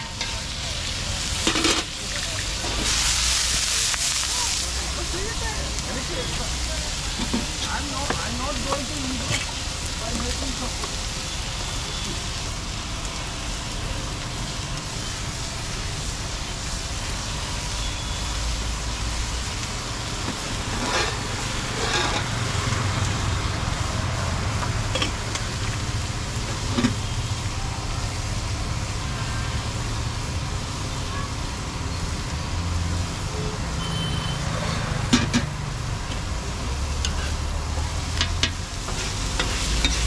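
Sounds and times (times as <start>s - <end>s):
food sizzling on a griddle: 0.0s - 40.0s
road traffic: 0.0s - 40.0s.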